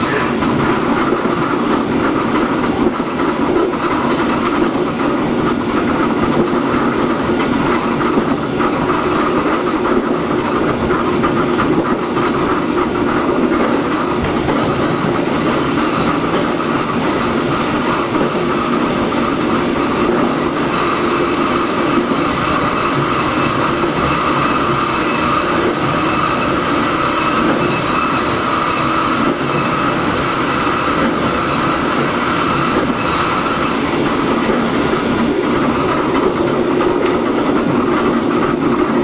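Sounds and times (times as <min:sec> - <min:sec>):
train motors humming: 0:00.0 - 0:39.0
wheels on rail: 0:00.0 - 0:39.0.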